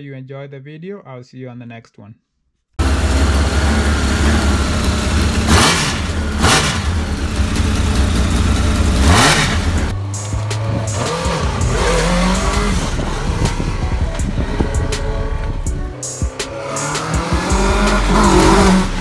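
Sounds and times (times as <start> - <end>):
motorcycle engine revving: 2.8 - 19.0.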